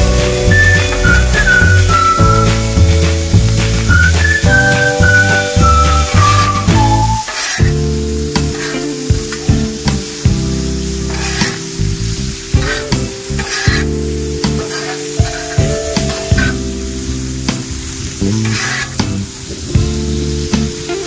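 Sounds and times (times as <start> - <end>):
background music of held chords: 0.0 - 21.0
food frying and sizzling: 0.0 - 21.0.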